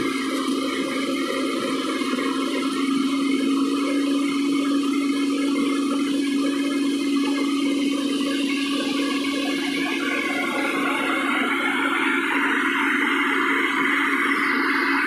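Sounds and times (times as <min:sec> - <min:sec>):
backhoe loader engine droning: 0:00.0 - 0:15.0.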